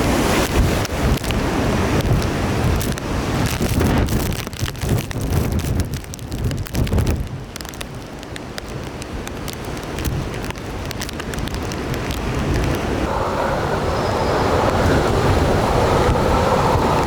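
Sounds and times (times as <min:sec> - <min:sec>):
rain striking: 0:00.0 - 0:17.0
wind buffeting microphone: 0:00.0 - 0:17.0.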